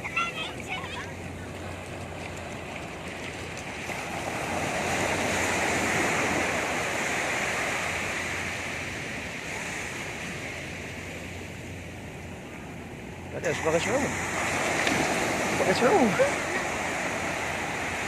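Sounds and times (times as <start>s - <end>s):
sea waves breaking on beach: 0.0s - 18.0s.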